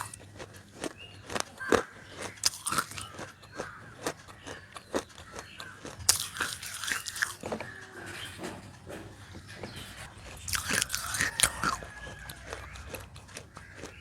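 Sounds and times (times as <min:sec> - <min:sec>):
crunchy food biting and chewing: 0:00.0 - 0:14.0.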